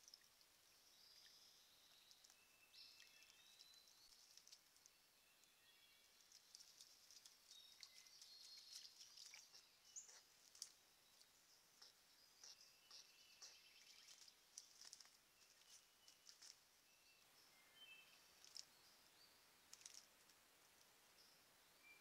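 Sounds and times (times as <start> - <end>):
low hiss: 0.0 - 22.0
small birds chirping: 0.0 - 22.0.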